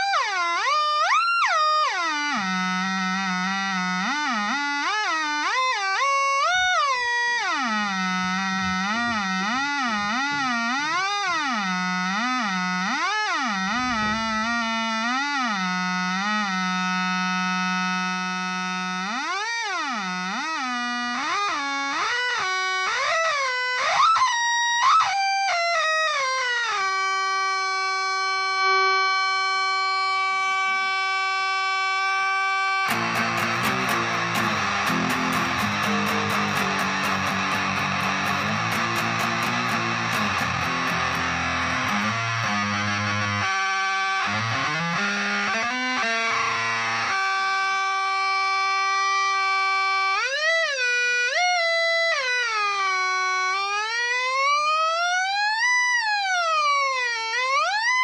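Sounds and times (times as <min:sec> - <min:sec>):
electric guitar fuzz tone: 0:00.0 - 0:55.4.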